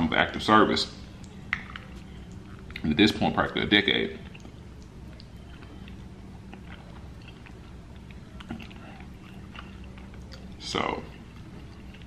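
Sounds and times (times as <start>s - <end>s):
quiet chewing: 1.1s - 3.0s, 4.2s - 12.0s.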